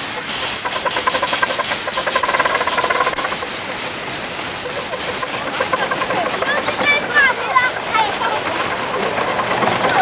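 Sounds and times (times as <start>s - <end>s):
steam hissing: 0.0s - 10.0s
steam locomotive exhaust beating: 0.0s - 10.0s.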